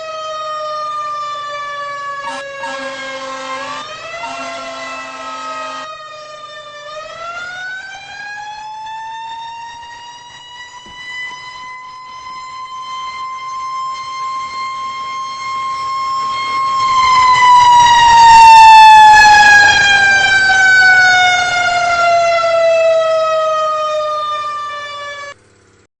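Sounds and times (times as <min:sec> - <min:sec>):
fire engine siren: 0:00.0 - 0:25.4.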